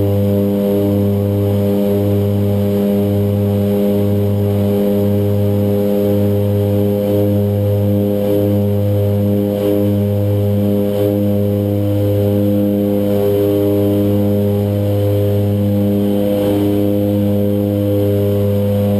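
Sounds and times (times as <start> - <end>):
turboprop engines droning: 0.0 - 18.9.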